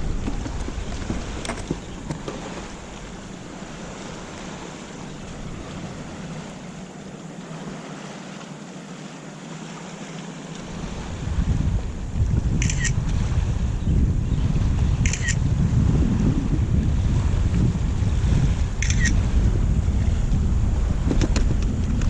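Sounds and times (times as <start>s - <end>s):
river water: 0.0s - 22.0s
wind: 0.0s - 22.0s.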